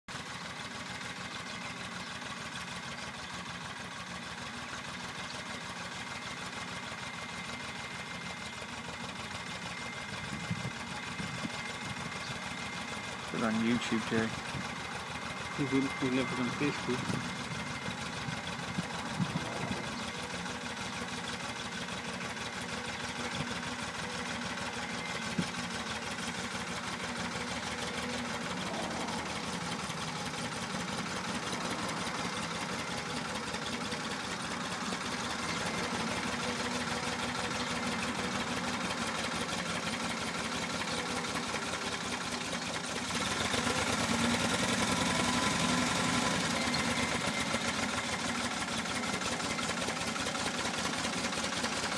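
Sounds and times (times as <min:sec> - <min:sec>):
tractor engine running: 0:00.1 - 0:51.9.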